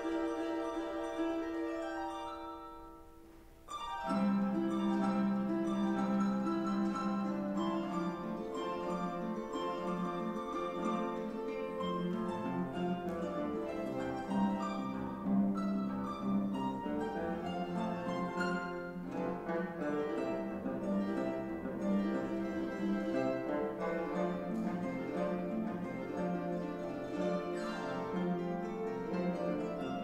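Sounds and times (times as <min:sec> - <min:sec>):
harp playing lively piece: 0:00.0 - 0:30.0.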